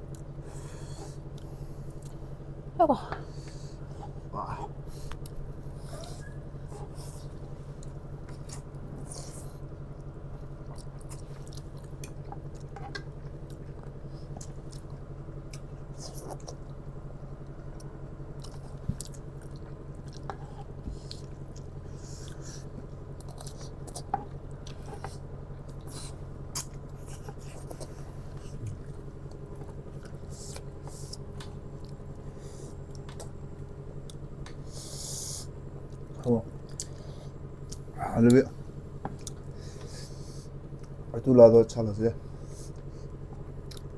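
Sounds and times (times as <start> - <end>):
steady low hum: 0.0 - 43.9
chewing noodles: 5.0 - 41.0, 42.4 - 43.9.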